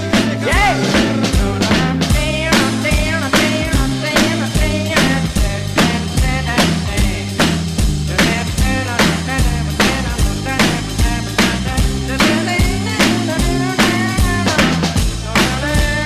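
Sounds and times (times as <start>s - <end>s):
instrumental rock music: 0.0s - 16.0s.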